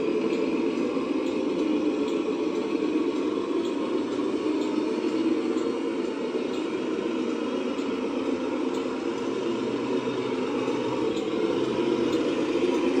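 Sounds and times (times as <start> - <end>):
toy truck motor drone: 0.0 - 13.0.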